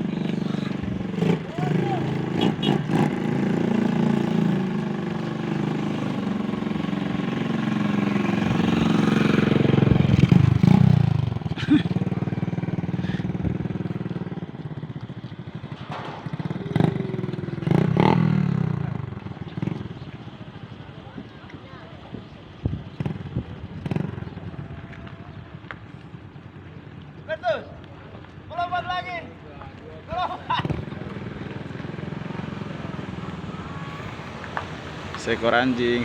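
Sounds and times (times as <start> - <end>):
motorcycle engine revving: 0.0 - 20.8, 22.8 - 25.6, 30.5 - 36.0.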